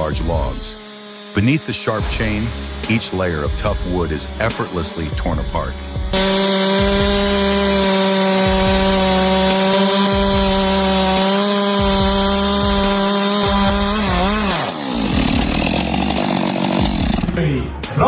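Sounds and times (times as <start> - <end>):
chainsaw cutting through log: 0.0 - 17.4.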